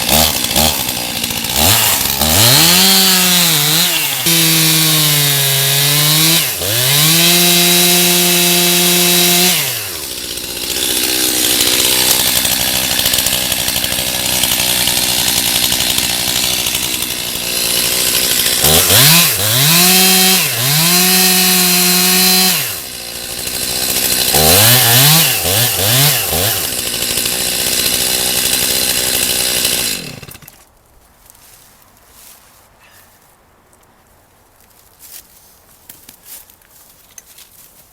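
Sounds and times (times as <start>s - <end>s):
chainsaw cutting wood: 0.0s - 30.7s.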